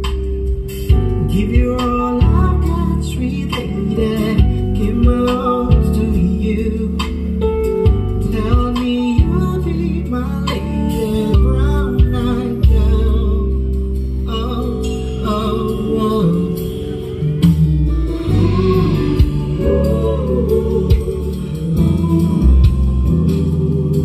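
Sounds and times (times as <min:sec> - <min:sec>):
bass-heavy song on car speakers: 0:00.0 - 0:24.0.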